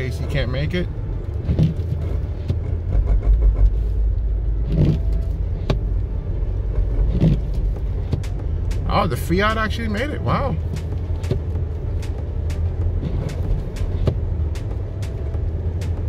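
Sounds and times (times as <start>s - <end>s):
engine and tyres rumbling on snow: 0.0s - 16.0s.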